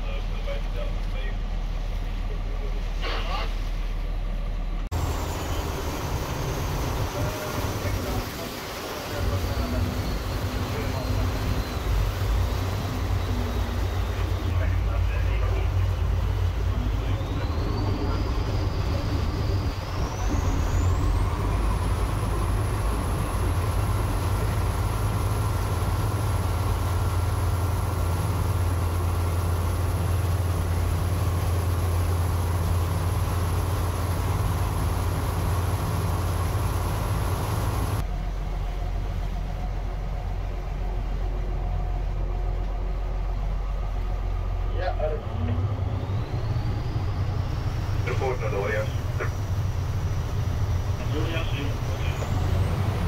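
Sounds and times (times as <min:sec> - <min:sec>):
boat engine humming: 0:00.0 - 0:53.0
water rushing along hull: 0:00.0 - 0:53.0.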